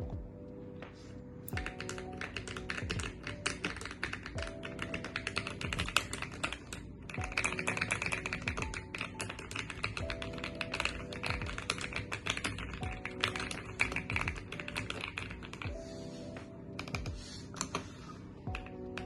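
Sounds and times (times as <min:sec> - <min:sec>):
faint background music: 0:00.0 - 0:19.0
fast keyboard typing: 0:01.5 - 0:15.8, 0:16.8 - 0:19.0.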